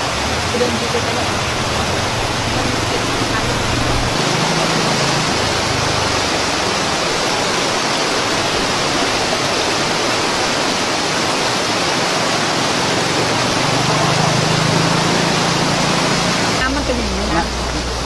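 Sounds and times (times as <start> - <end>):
water rushing down rocky stream: 0.0 - 18.0.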